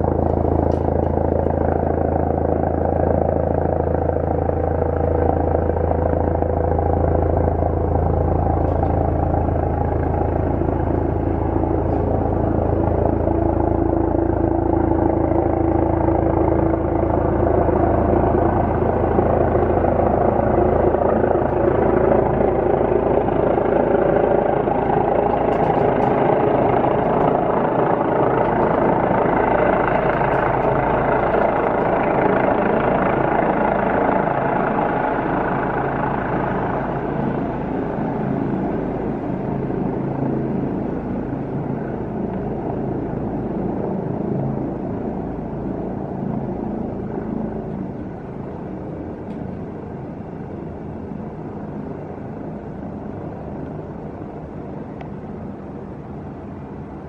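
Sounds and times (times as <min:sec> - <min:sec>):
helicopter rotor and turbine drone: 0:00.0 - 0:57.0.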